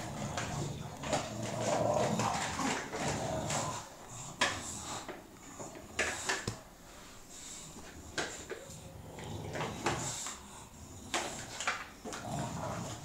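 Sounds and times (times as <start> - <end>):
dogs scuffling: 0.0 - 10.4.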